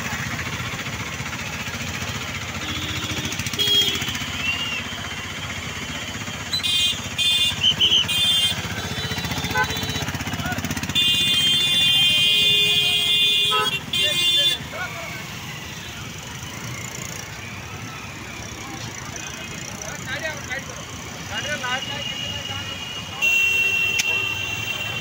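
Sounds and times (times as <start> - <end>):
motorcycles and cars traffic: 0.0 - 25.0.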